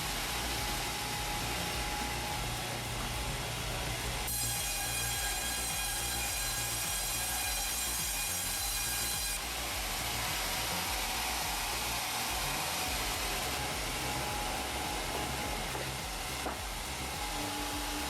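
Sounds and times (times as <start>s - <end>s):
steady hissing machine noise: 0.0s - 18.0s.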